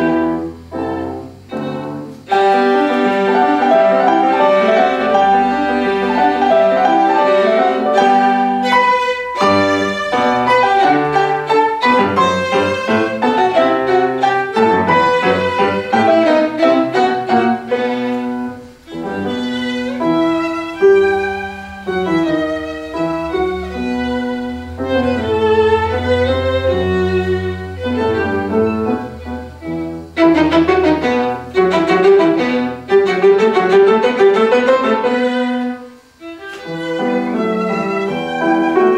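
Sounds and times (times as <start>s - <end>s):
grand piano: 0.0s - 38.9s
violin melody: 0.0s - 38.9s.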